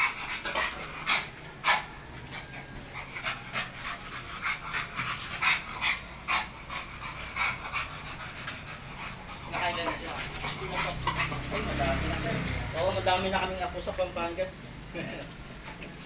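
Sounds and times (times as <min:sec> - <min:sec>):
dog panting: 0:00.0 - 0:13.4.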